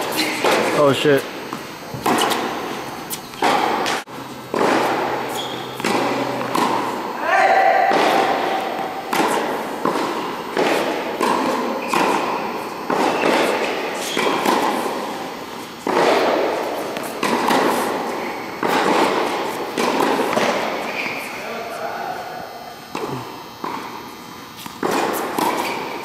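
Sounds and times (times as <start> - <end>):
tennis balls bouncing on hard court: 0.0 - 21.8, 22.9 - 24.0, 24.6 - 26.0
tennis balls struck by racquets: 0.0 - 21.9, 22.9 - 26.0.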